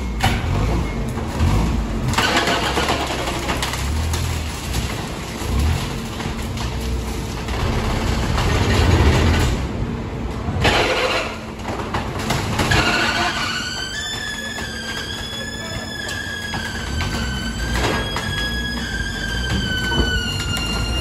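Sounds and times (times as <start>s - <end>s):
engines rumbling: 0.0s - 21.0s.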